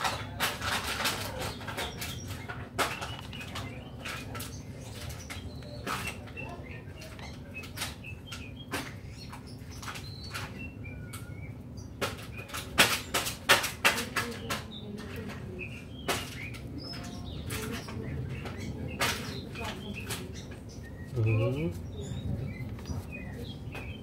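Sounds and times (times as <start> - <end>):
sharp clicks and light knocks: 0.0 - 20.8
small birds chirping: 0.0 - 24.0.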